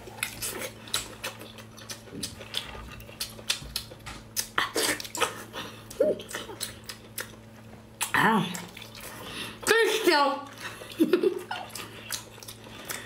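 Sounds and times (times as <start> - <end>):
wet chewing and mouth smacks: 0.0 - 9.3, 10.8 - 13.0.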